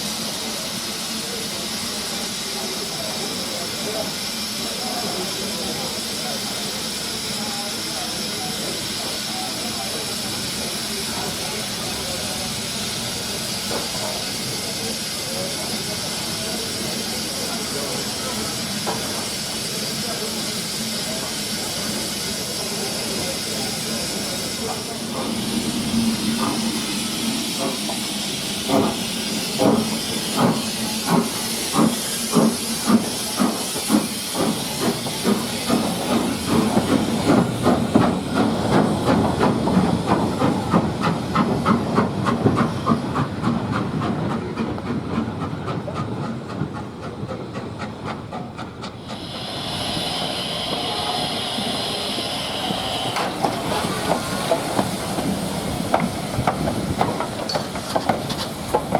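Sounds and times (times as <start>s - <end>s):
hiss of steam: 0.0s - 58.9s
steam locomotive exhaust beats: 0.0s - 58.9s.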